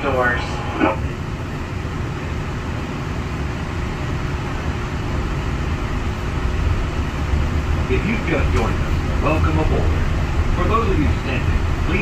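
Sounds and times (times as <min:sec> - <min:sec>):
monorail train rumble: 0:00.0 - 0:12.0.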